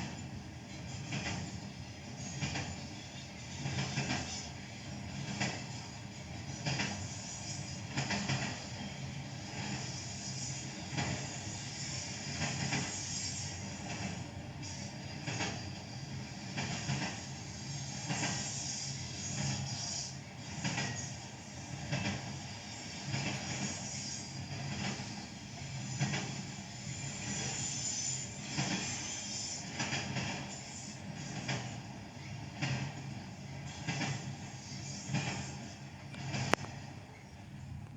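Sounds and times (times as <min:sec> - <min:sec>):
low train rumble: 0:00.0 - 0:37.9
train wheels clicking over rail joints: 0:00.0 - 0:37.9.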